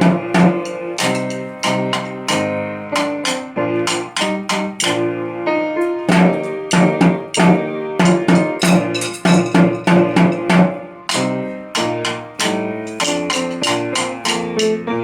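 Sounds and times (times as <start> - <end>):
keyboard instrument playing: 0.0 - 15.0.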